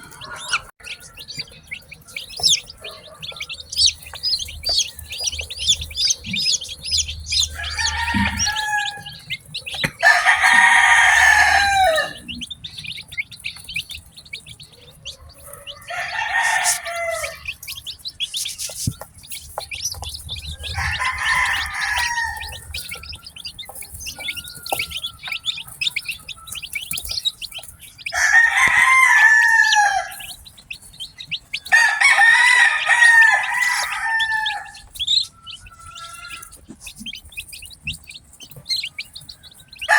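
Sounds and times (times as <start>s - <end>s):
chicken calling: 0.0s - 39.9s
chicks peeping: 0.0s - 39.9s.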